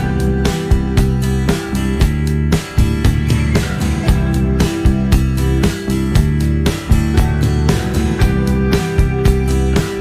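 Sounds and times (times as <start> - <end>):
steady beat: 0.0 - 10.0
strummed guitar: 0.0 - 10.0.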